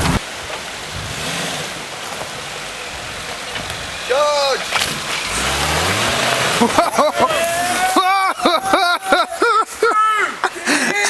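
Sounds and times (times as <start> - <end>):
off-road vehicle engine: 0.0 - 9.8.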